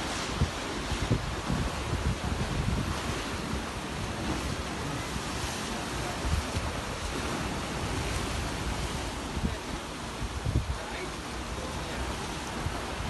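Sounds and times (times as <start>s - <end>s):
wind buffeting microphone: 0.0s - 11.0s
sea waves: 0.0s - 13.0s.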